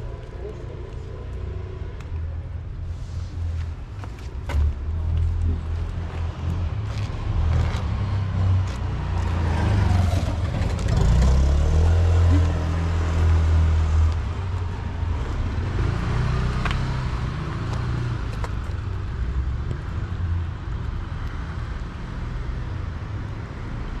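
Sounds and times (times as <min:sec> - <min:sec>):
road traffic noise: 0:00.0 - 0:24.0
vehicle engine rumble: 0:00.0 - 0:24.0.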